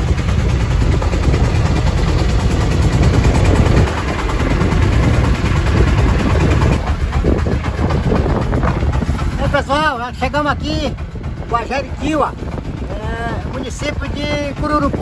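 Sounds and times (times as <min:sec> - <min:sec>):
boat motor rumbling: 0:00.0 - 0:15.0
wind and water rushing: 0:00.0 - 0:15.0.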